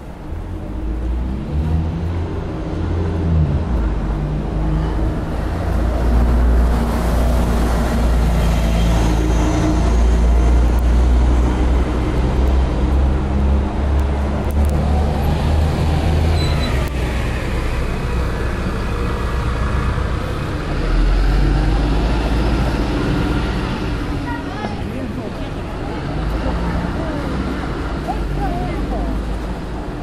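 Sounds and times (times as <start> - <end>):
bus engine rumbling: 0.0 - 30.0.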